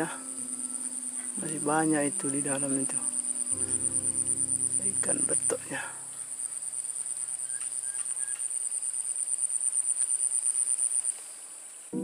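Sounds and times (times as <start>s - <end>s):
high-pitched insect trill: 0.0s - 11.4s.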